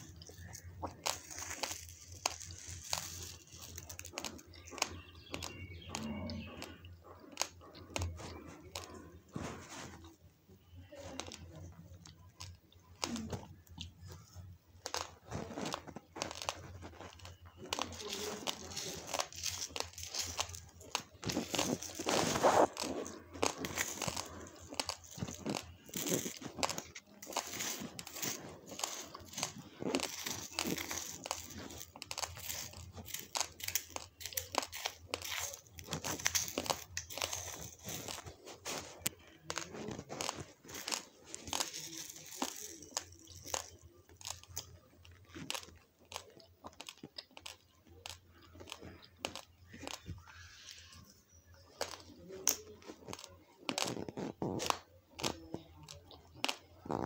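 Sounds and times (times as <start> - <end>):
chewing crunchy raw rice: 0.0 - 57.0.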